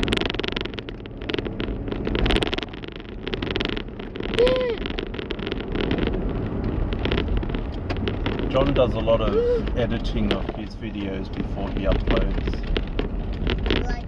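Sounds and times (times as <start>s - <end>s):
road and engine rumble: 0.0s - 14.0s.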